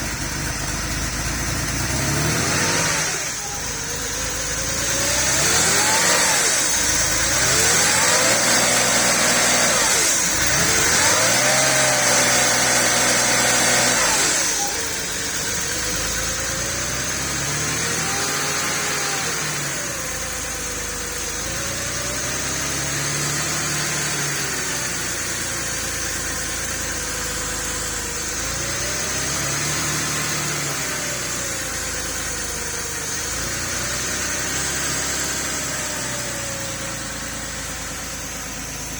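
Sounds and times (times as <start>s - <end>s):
car engine idling: 0.0s - 38.9s
car engine revving: 0.0s - 38.9s.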